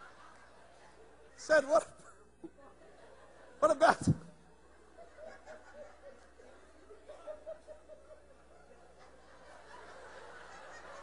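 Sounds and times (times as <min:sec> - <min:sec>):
audience laughing: 0:00.0 - 0:01.4, 0:02.4 - 0:11.0.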